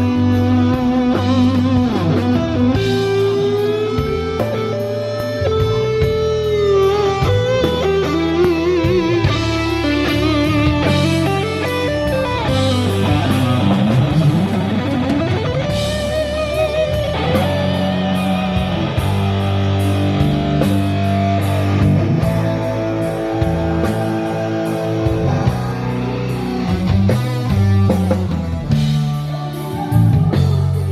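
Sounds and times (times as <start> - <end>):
bass and drums: 0.0 - 30.9
electric lead guitar: 0.0 - 30.9.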